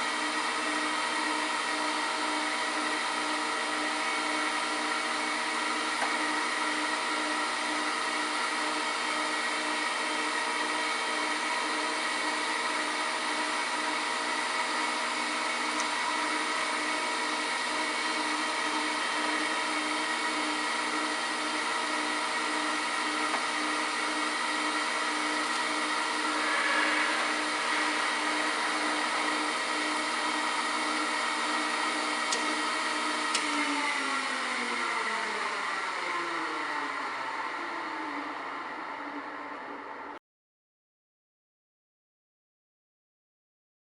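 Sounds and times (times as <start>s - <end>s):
surface grinder motor hum: 0.0s - 36.6s.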